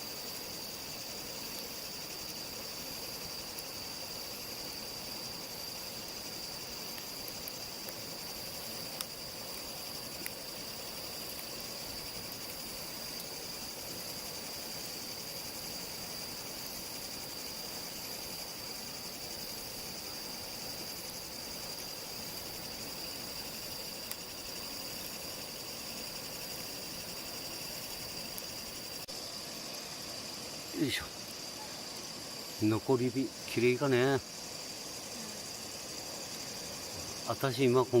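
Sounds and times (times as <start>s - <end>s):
night insects trilling: 0.0s - 38.0s.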